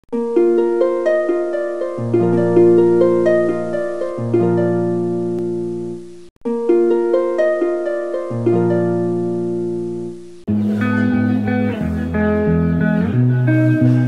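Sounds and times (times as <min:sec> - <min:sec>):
plucked harp-like background music: 0:00.2 - 0:14.0.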